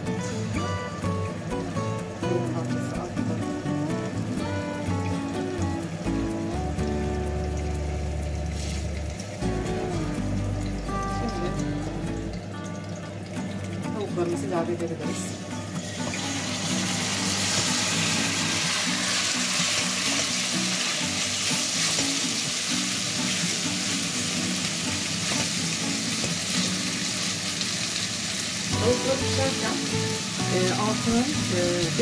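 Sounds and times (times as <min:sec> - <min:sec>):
chicken sizzling in oil: 0:00.0 - 0:32.0.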